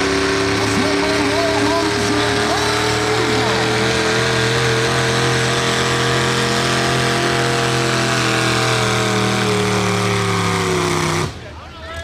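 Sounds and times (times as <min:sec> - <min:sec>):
tractor engine running: 0:00.0 - 0:11.6.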